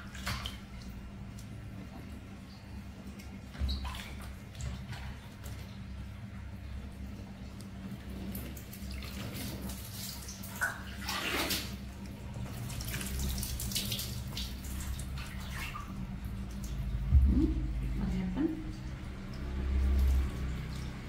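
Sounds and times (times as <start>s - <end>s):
steady low hum: 0.0s - 21.0s
water splashing and trickling: 0.0s - 21.0s.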